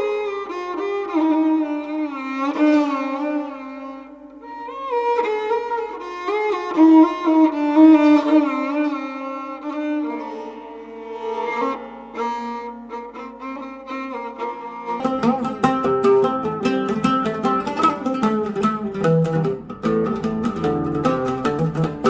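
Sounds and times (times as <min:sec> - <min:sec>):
bowed string melody: 0:00.0 - 0:22.0
plucked string notes: 0:04.0 - 0:22.0.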